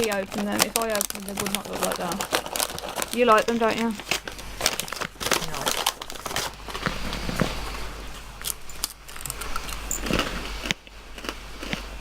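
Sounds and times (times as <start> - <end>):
plastic snack bag rustling: 0.0 - 10.8
crunching snack: 0.0 - 12.0.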